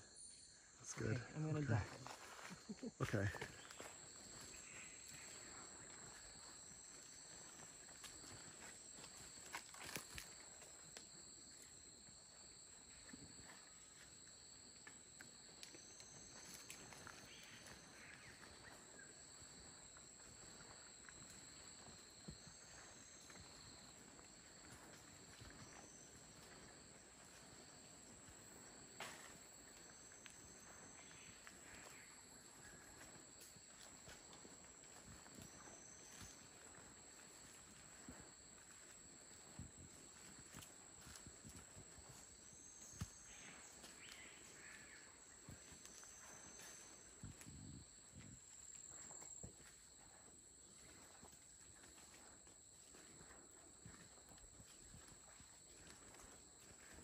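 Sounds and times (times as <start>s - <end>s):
high-pitched insect drones: 0.0s - 57.0s.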